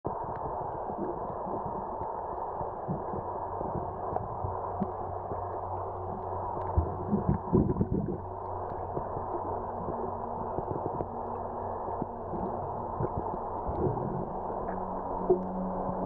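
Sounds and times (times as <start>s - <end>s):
underwater rush of water: 0.1s - 16.0s.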